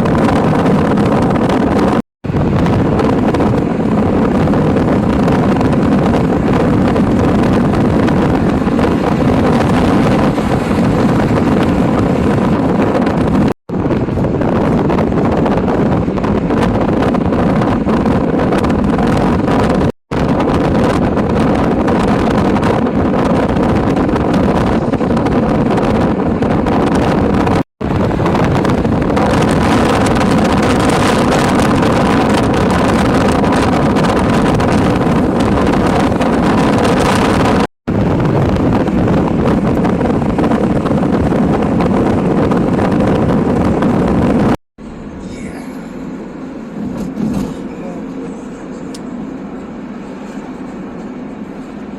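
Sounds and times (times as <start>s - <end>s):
car road and engine noise: 0.0s - 51.9s
wind buffeting microphone: 0.0s - 51.9s.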